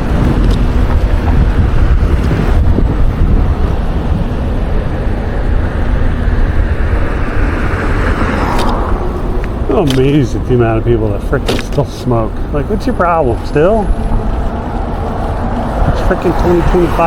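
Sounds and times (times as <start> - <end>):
road and traffic noise: 0.0 - 17.0
wind buffeting microphone: 0.0 - 17.0.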